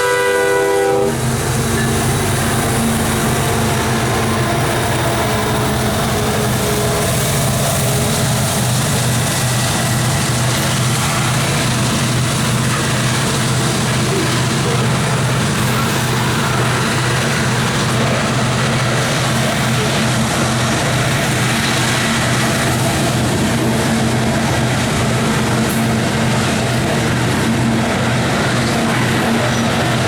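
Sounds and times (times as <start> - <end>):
freight train rumbling on rails: 0.0 - 30.0.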